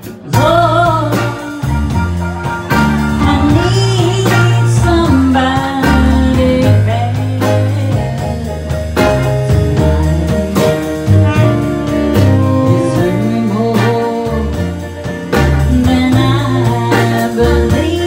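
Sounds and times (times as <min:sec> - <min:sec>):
bass line: 0:00.0 - 0:18.0
woman singing: 0:00.3 - 0:01.8, 0:03.2 - 0:18.0.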